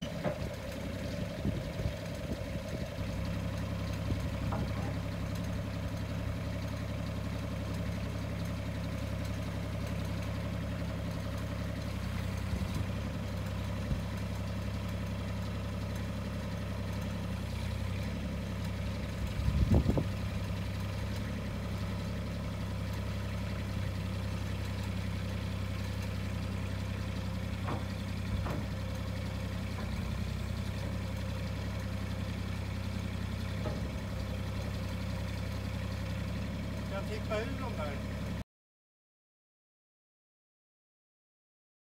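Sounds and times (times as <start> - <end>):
diesel engine idling: 0.0 - 38.4.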